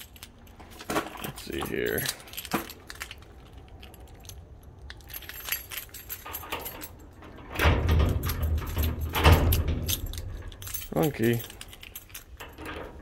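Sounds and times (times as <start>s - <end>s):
keys jangling: 0.0s - 13.0s
low rumble with clattering: 0.0s - 13.0s
small metallic clicks: 0.0s - 13.0s.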